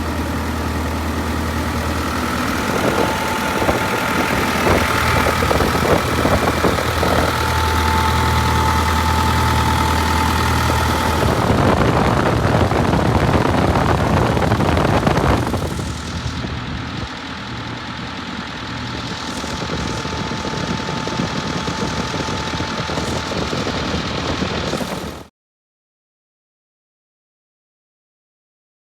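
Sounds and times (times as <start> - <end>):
diesel engine running: 0.0 - 25.3.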